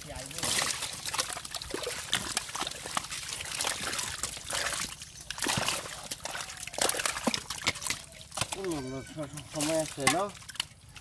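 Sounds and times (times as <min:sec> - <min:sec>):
mud squelching and sloshing: 0:00.0 - 0:11.0
wet splatters and drips: 0:00.0 - 0:11.0.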